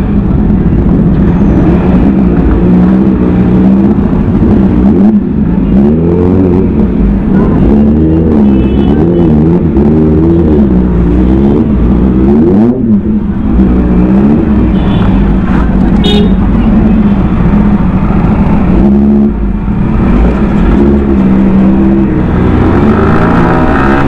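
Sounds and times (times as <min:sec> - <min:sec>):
motorcycle engine revving: 0:00.5 - 0:24.0.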